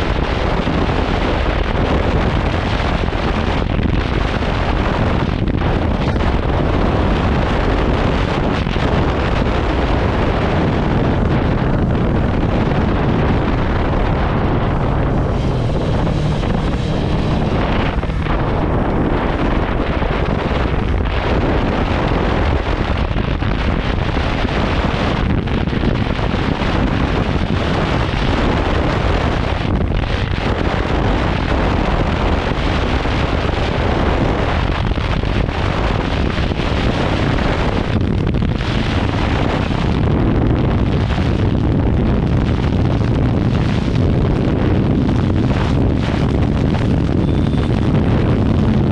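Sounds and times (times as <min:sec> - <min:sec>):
motorcycle engine running: 0:00.0 - 0:48.9
wind buffeting microphone: 0:00.0 - 0:48.9.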